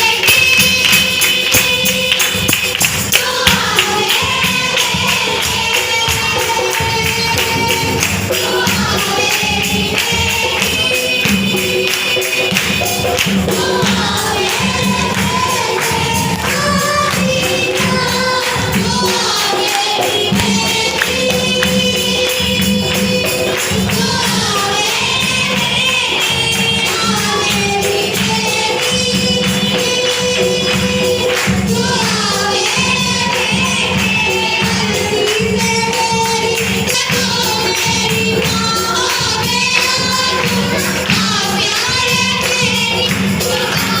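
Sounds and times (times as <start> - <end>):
group of voices singing: 0.0 - 44.0
percussion: 0.0 - 44.0
tambourine shaking: 0.0 - 44.0.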